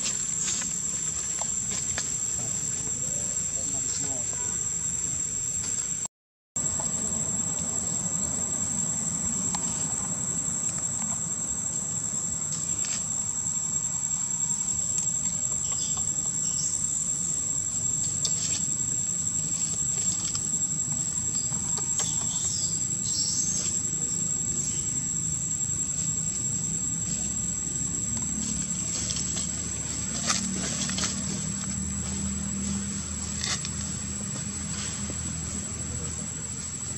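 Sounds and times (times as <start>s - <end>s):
high-pitched insect drone: 0.0s - 36.9s.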